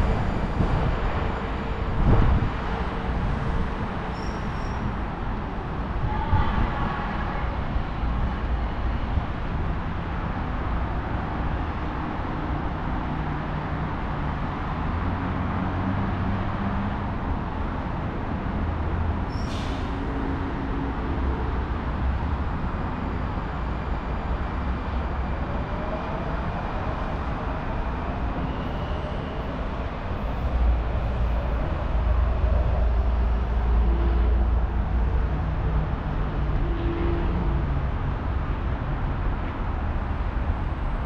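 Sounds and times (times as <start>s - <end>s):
rumble of passing vehicles: 0.0s - 41.0s.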